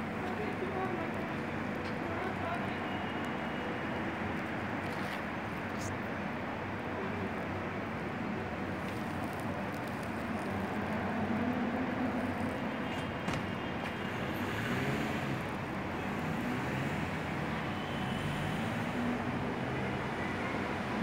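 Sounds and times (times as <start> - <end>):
distant road traffic: 0.0 - 21.0.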